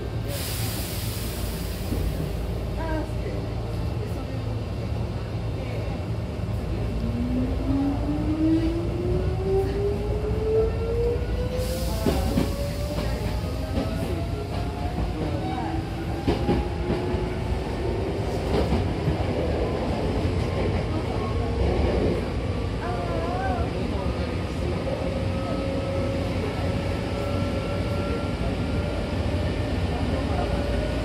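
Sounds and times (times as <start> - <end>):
train car rumble: 0.0 - 31.0.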